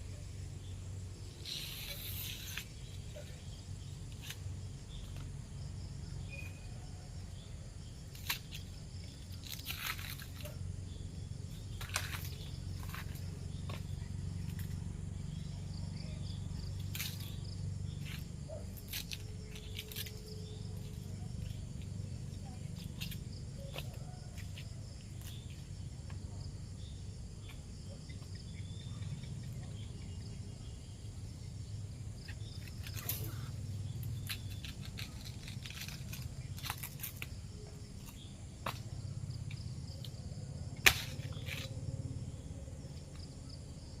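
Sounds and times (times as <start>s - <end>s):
faint insect chirring: 0.0s - 44.0s.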